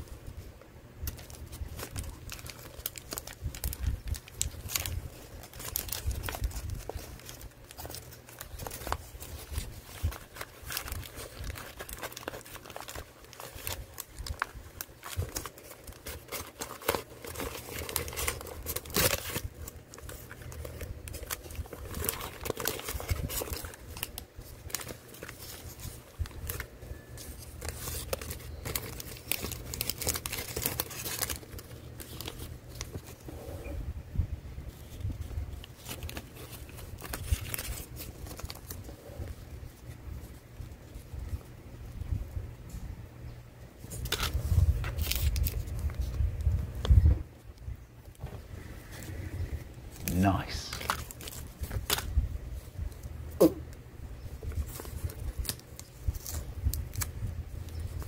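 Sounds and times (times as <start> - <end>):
paper crinkling and tearing: 1.0 - 33.3, 34.7 - 41.5, 43.8 - 46.9, 49.9 - 53.1, 54.3 - 58.0.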